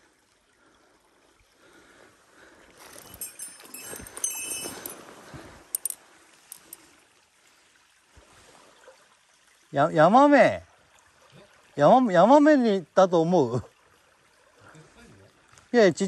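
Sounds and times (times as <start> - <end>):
faint stream water: 0.0 - 16.0.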